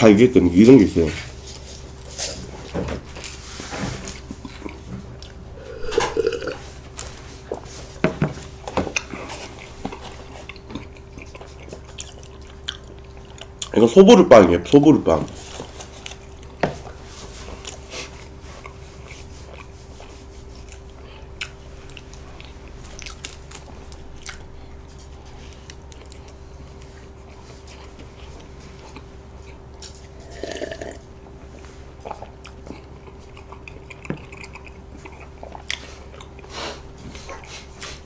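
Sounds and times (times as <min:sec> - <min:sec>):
faint steady hum: 0:00.0 - 0:38.0
chewing bread: 0:04.0 - 0:13.9, 0:15.2 - 0:38.0.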